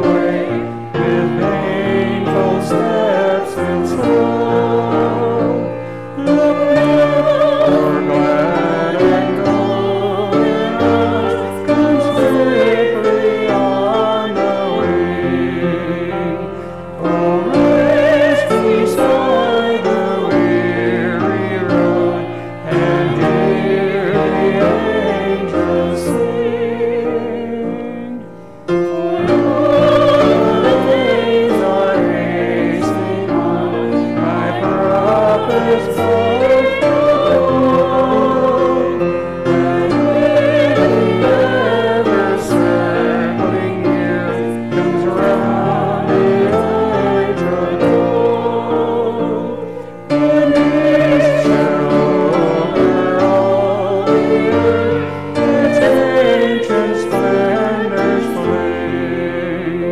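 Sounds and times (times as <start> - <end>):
choir singing: 0.0 - 59.9
grand piano: 0.0 - 59.9.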